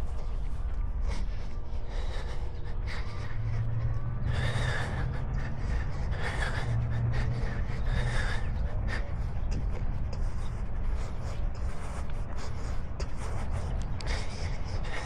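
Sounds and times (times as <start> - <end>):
runner gasping breaths: 0.0 - 15.0.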